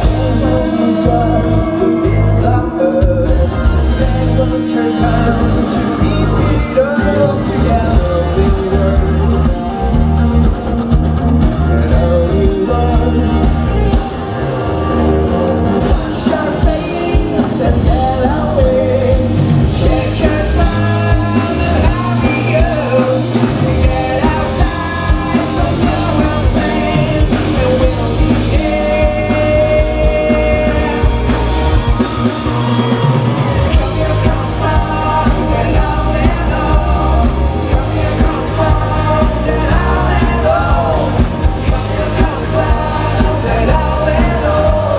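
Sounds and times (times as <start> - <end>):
lead singer singing: 0.0 - 44.9
live rock band playing: 0.0 - 44.9.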